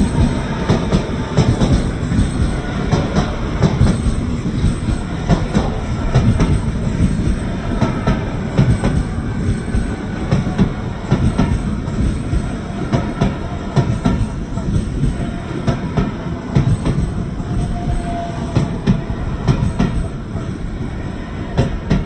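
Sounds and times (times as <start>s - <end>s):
train rumble on rails: 0.0s - 22.0s.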